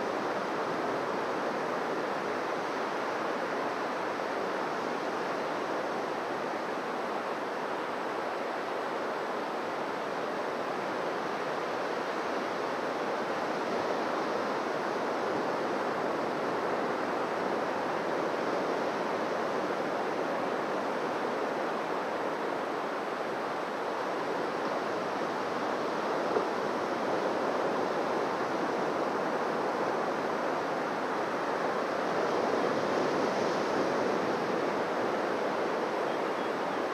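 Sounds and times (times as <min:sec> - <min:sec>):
waves washing onto beach: 0:00.0 - 0:36.9.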